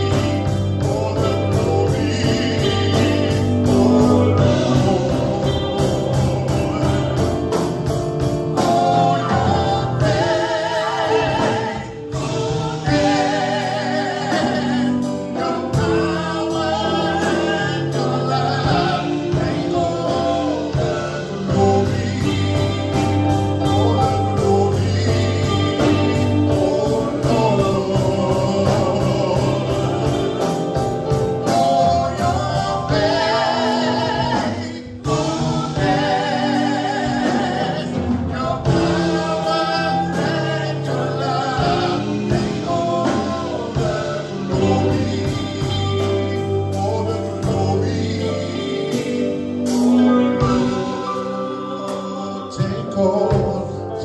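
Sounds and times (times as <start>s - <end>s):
gospel band with singers: 0.0s - 54.0s.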